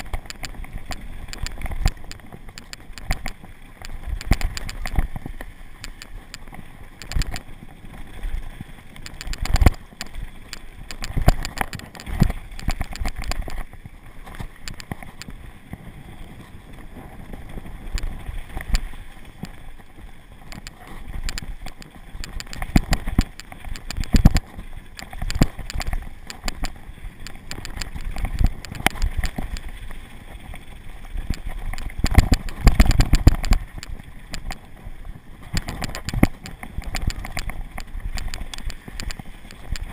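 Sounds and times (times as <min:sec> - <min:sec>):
bike knocking and rattling: 0:00.0 - 0:39.9
bike tyres rumbling on dirt: 0:00.0 - 0:39.9
wind: 0:00.0 - 0:39.9.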